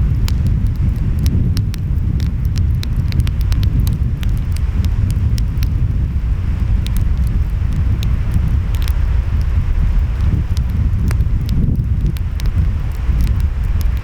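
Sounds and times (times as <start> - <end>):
wind: 0.0 - 14.0
wood fire crackling: 0.0 - 14.0.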